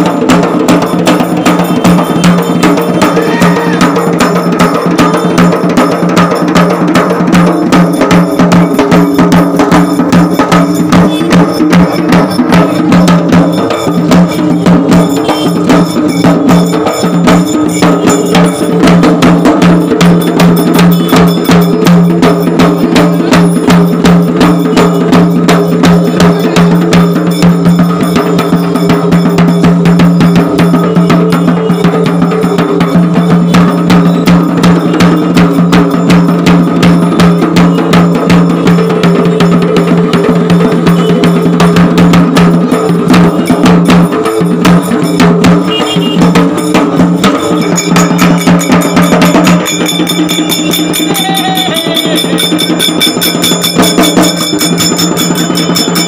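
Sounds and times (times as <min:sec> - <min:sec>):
rapid drum strokes: 0:00.0 - 0:56.0.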